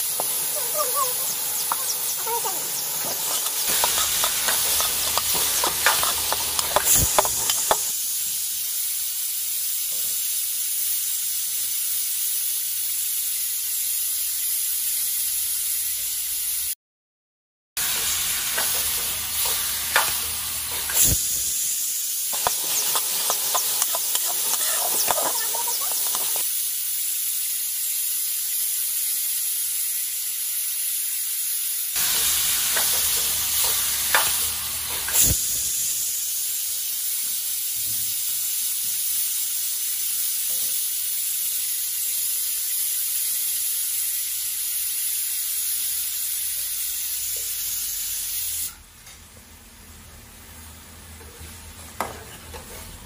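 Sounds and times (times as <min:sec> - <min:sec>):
vegetables sizzling in oil: 0:00.0 - 0:16.8, 0:17.8 - 0:53.0.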